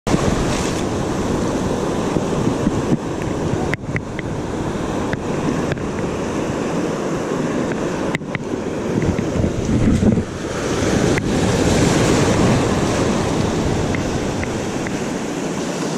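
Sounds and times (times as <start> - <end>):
ocean surf washing: 0.0 - 15.9
wind on microphone: 0.1 - 15.9.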